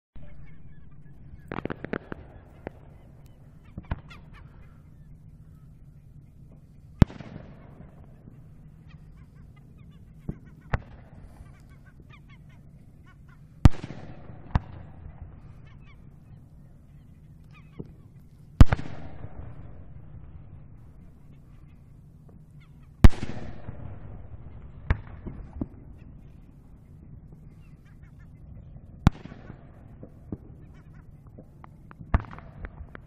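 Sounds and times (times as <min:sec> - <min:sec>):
distant fireworks bursting: 0:00.2 - 0:33.0.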